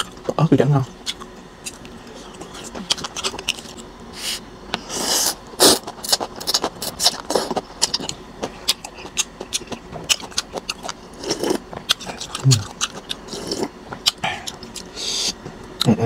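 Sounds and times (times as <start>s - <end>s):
wet chewing with mouth clicks: 1.0s - 16.0s.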